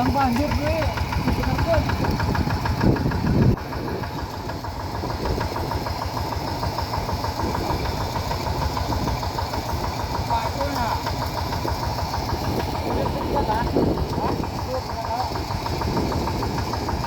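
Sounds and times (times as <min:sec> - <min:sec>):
tractor engine knocking: 0:00.0 - 0:17.0.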